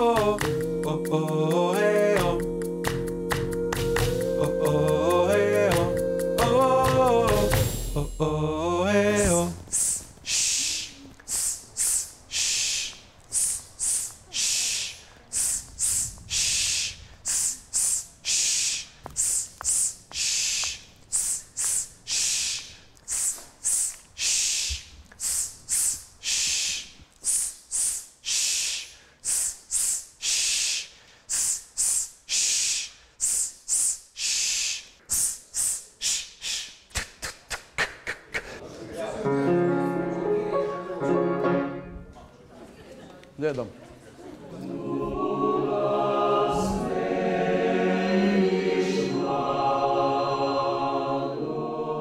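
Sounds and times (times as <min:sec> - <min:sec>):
choir hissing rhythmically: 0:00.0 - 0:36.0, 0:44.4 - 0:52.0.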